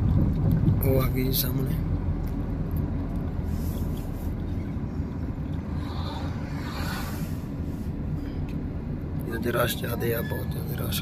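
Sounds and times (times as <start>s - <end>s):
vehicle engine and tyre rumble: 0.0s - 11.0s.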